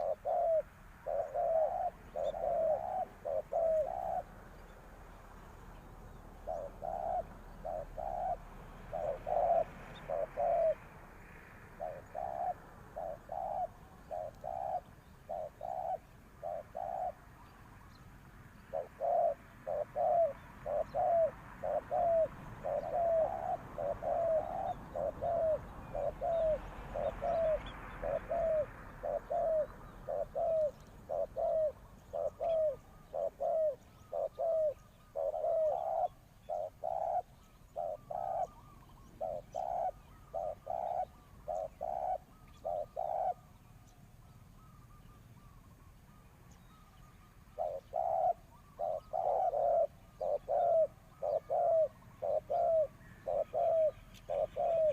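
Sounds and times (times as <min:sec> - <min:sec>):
dove cooing: 0:00.0 - 0:04.8, 0:06.1 - 0:17.4, 0:18.6 - 0:43.9, 0:46.5 - 0:54.9.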